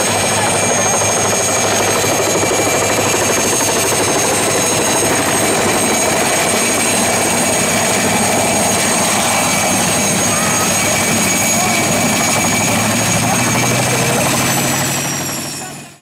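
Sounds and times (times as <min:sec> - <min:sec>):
helicopter engine whine: 0:00.0 - 0:16.0
helicopter rotor chop: 0:00.0 - 0:16.0.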